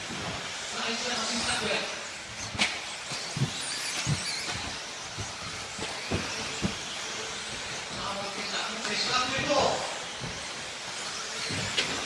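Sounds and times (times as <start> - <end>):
faint high whines: 0.0 - 12.0
rc car motors and tyres hissing: 0.0 - 12.0.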